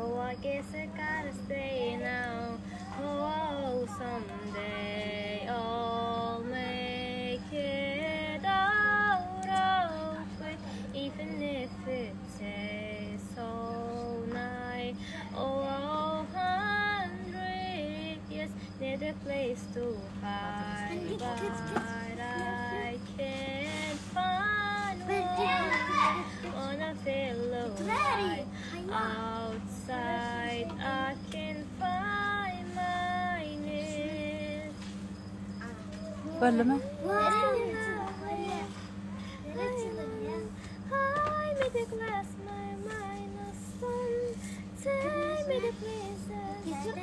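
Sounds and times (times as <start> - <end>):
girl singing unaccompanied: 0.0 - 47.0
steady low hum: 0.0 - 47.0.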